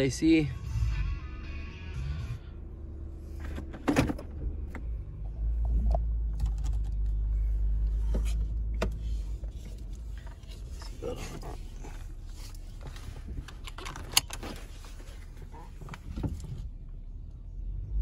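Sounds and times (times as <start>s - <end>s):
car engine rumble in cabin: 0.0s - 18.0s.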